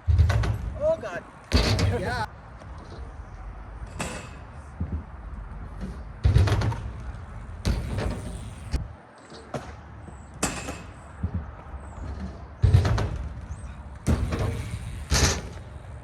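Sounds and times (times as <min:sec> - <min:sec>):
bike landing heavy thuds: 0:00.0 - 0:00.8, 0:01.5 - 0:02.3, 0:03.8 - 0:09.8, 0:10.4 - 0:16.0.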